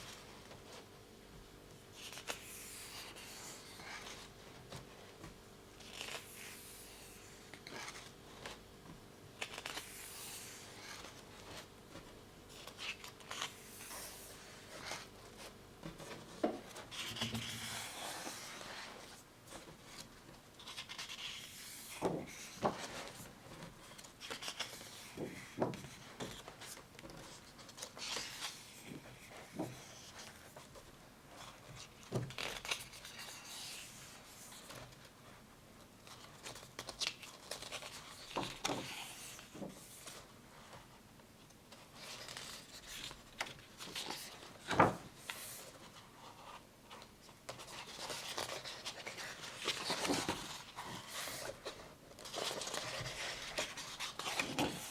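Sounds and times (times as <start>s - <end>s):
paper pages rustling: 1.8s - 8.7s, 9.4s - 35.1s, 36.0s - 41.0s, 41.7s - 54.9s.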